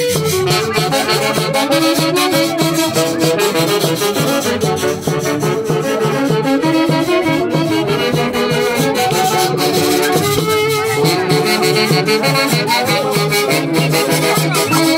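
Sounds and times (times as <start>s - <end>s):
brass band music: 0.0s - 14.9s
shaken percussion: 0.0s - 14.9s.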